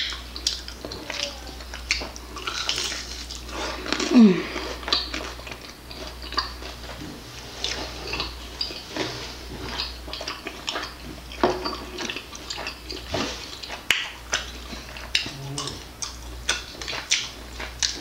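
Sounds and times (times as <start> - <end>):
chewing crispy chicken wings: 0.0 - 18.0
steady low hum: 0.0 - 18.0
wet mouth sounds: 0.0 - 18.0.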